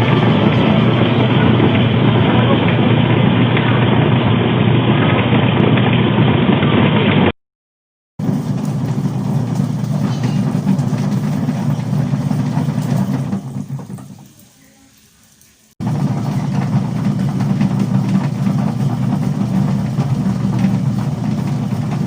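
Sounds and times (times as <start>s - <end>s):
pottery wheel motor running: 0.0s - 7.3s, 8.2s - 14.3s, 15.8s - 22.0s.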